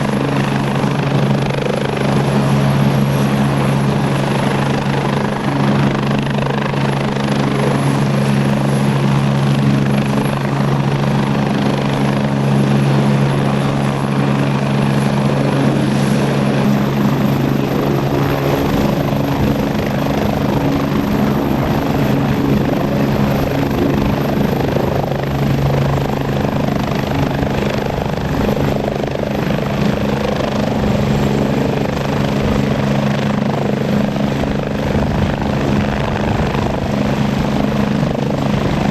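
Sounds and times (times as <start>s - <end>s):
helicopter rotor noise: 0.0s - 38.9s
high turbine whine: 0.0s - 38.9s.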